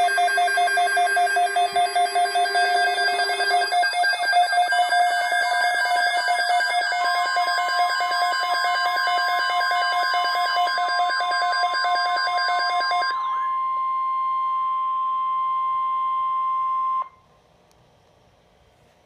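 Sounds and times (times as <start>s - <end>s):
rapid electronic alarm beeps: 0.0s - 17.1s
steady electronic alarm tone: 0.0s - 17.1s.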